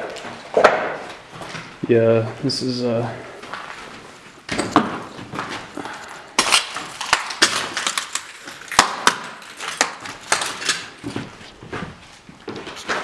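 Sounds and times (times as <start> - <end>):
footsteps crunching over debris: 0.0 - 13.0.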